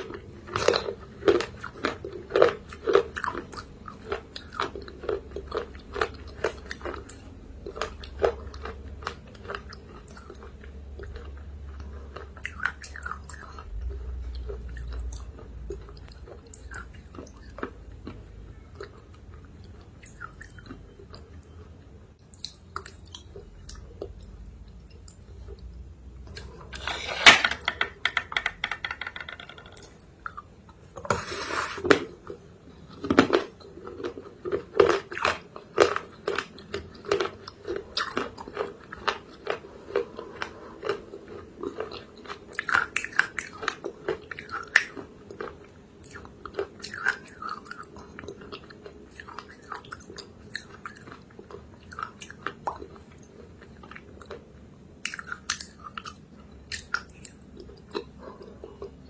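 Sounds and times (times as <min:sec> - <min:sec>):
steady chewing: 0:00.0 - 0:26.7, 0:32.1 - 0:59.0.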